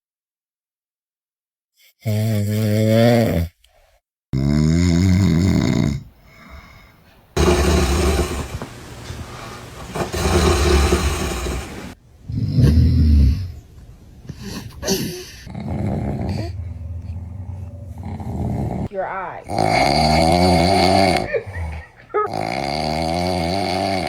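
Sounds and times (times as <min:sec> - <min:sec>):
loud snoring: 0:02.0 - 0:03.6, 0:04.4 - 0:06.7, 0:07.4 - 0:13.6, 0:14.4 - 0:24.0.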